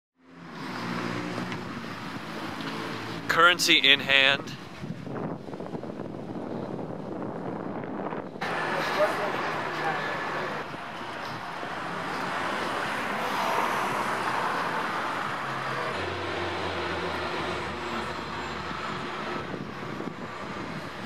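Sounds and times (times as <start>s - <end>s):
cars passing: 0.2s - 21.0s.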